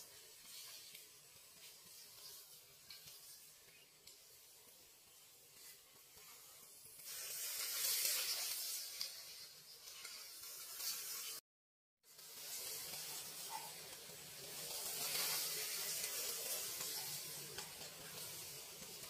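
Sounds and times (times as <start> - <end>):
water spraying onto leaves: 0.0 - 11.4, 12.1 - 19.0.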